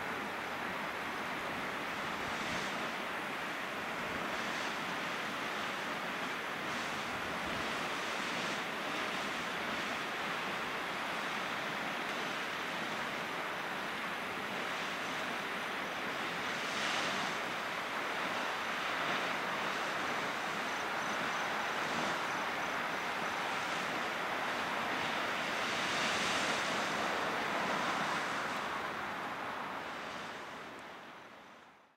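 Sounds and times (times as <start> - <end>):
geyser water splashing and surging: 0.0 - 31.3.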